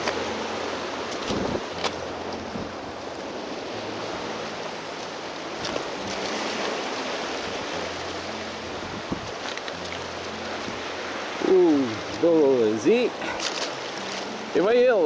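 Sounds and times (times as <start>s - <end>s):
surf washing among rocks: 0.0s - 15.0s.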